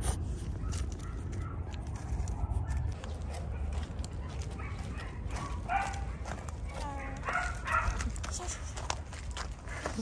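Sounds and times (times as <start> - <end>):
footsteps on wood chips: 0.1 - 10.0.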